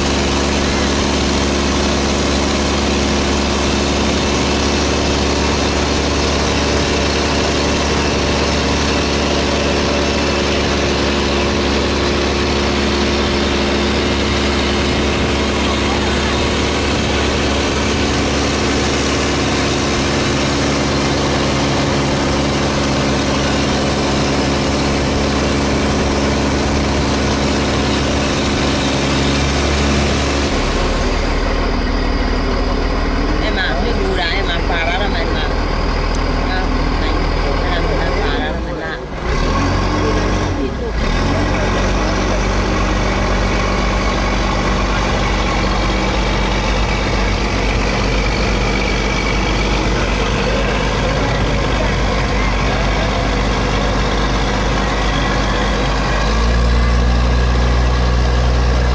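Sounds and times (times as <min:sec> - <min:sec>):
boat engine droning hum: 0:00.0 - 0:58.9.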